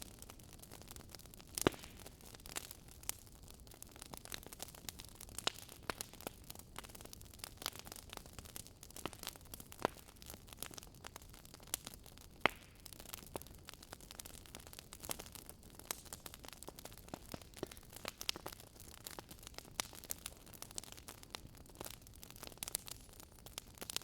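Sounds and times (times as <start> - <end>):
soft steady hiss: 0.0 - 24.0
wood fire crackling: 0.0 - 24.0.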